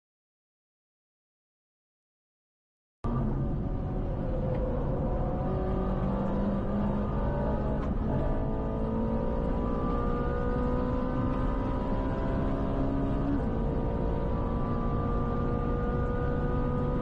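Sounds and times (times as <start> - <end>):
car engine accelerating: 3.1 - 17.0.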